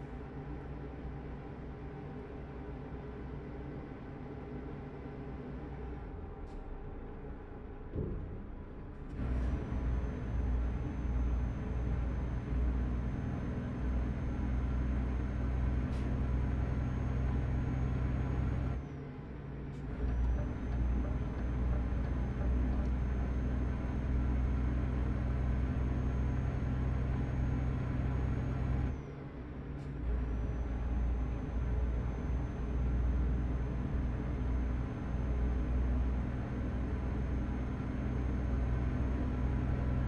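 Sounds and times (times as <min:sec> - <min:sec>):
truck engine droning: 0:05.4 - 0:40.0.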